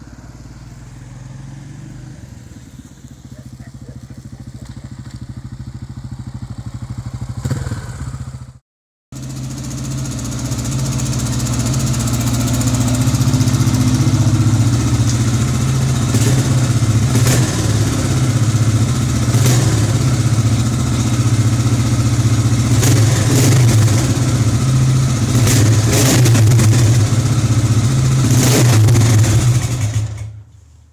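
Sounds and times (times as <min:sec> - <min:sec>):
motorcycle engine running loudly: 0:00.0 - 0:30.4.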